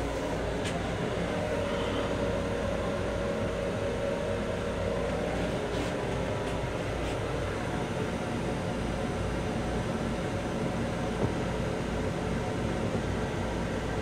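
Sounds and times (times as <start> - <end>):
electric railcar rumble and hum: 0.0 - 14.0.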